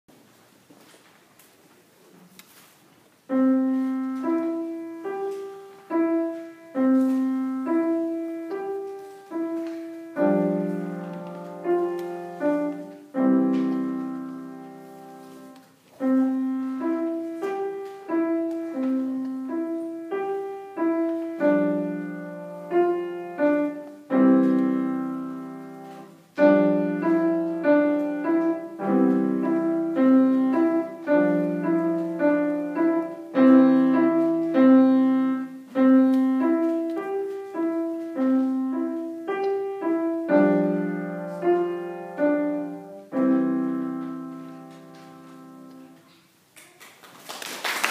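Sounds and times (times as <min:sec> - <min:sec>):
slow classical piano piece: 0:00.1 - 0:47.9.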